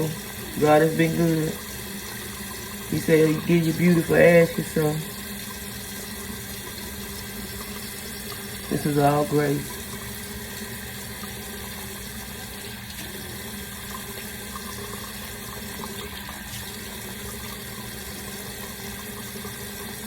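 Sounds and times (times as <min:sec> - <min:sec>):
tap water running: 0:00.0 - 0:20.0.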